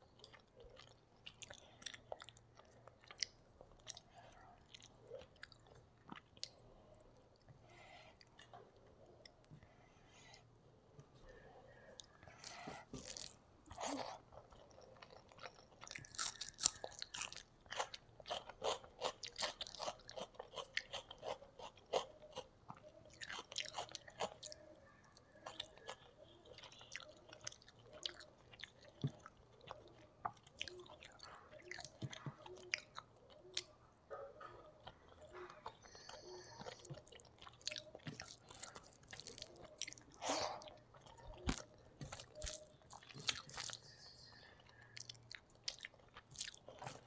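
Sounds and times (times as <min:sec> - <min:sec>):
chewing with wet mouth smacks: 0:00.0 - 0:07.5, 0:11.9 - 0:47.0.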